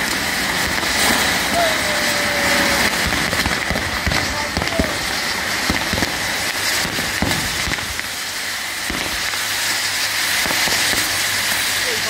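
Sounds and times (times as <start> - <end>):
fireworks hissing and crackling: 0.0 - 12.0.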